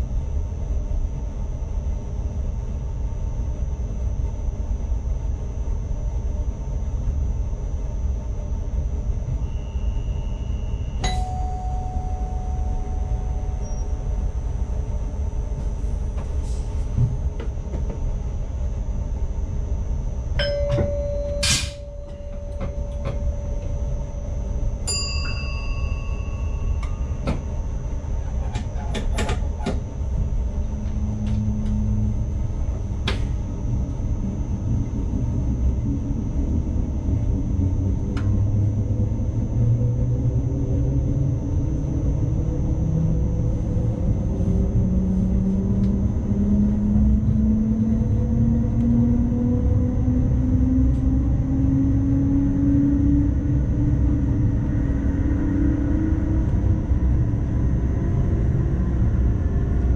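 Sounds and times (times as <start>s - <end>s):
train motors and rails rumbling: 0.0s - 59.9s.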